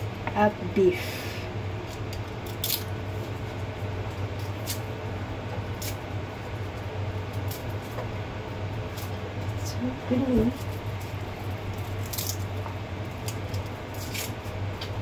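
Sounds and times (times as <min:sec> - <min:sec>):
garlic skin crackling: 0:01.8 - 0:08.1, 0:08.7 - 0:15.0.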